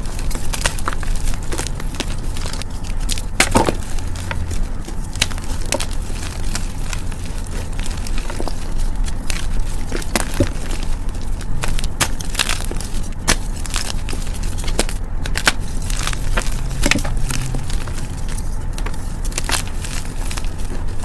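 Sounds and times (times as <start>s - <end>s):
chalk crunching and crackling: 0.0s - 21.0s
steady low hum: 0.0s - 21.0s.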